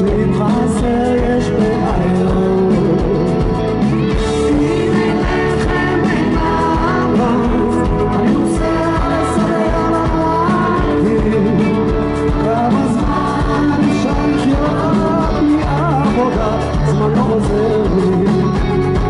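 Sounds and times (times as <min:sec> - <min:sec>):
drums: 0:00.0 - 0:19.0
electric guitar: 0:00.0 - 0:19.0
man singing into a microphone: 0:00.0 - 0:19.0.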